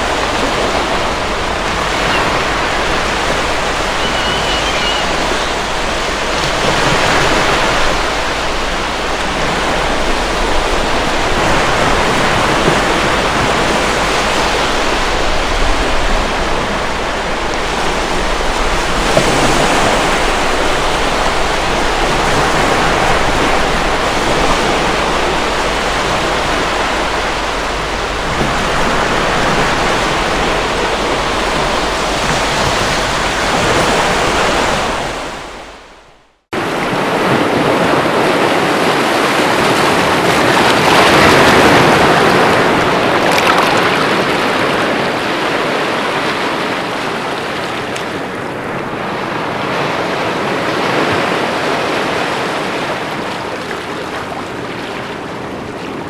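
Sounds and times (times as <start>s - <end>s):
sea waves breaking on rocks: 0.0s - 56.0s.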